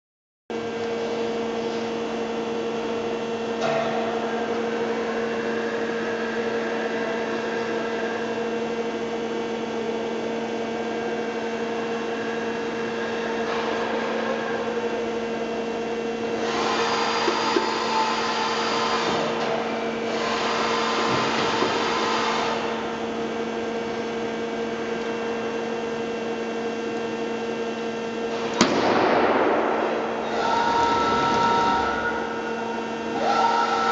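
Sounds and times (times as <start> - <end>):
boring mill machine hum: 0.5 - 33.9.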